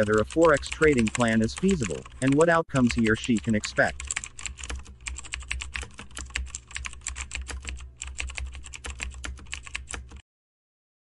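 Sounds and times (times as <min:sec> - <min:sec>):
rapid keyboard typing: 0:00.0 - 0:10.2.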